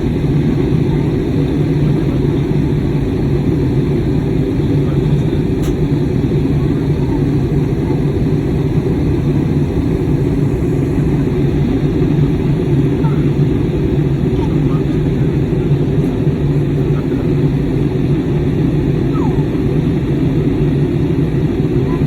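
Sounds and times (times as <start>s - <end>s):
airliner cabin engine drone: 0.0s - 22.0s.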